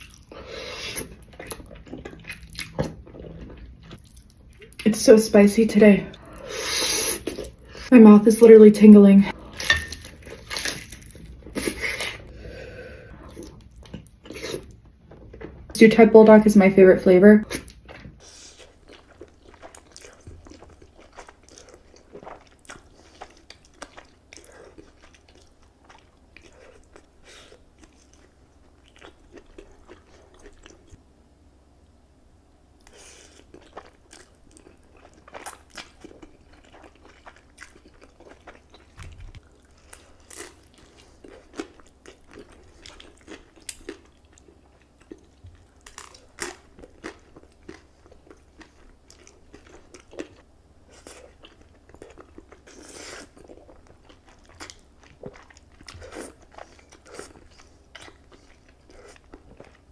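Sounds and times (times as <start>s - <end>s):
person chewing food: 0.0s - 4.8s, 6.2s - 7.9s, 9.3s - 15.6s, 17.5s - 31.0s, 32.8s - 59.9s.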